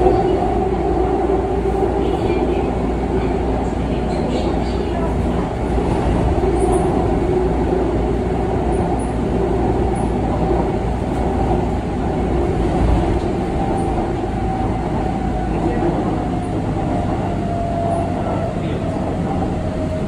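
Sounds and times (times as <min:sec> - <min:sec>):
electric train running on rails: 0:00.0 - 0:20.0.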